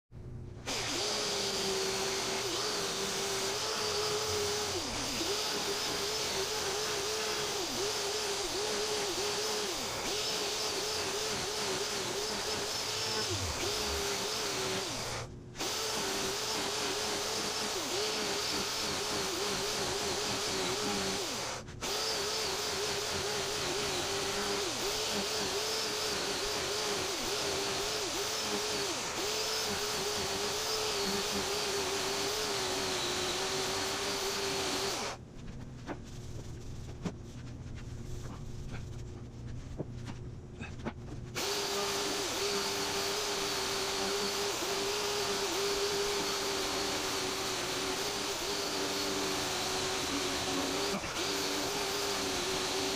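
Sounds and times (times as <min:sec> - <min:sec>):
chainsaw carving wood: 0:00.6 - 0:35.2, 0:41.4 - 0:52.9.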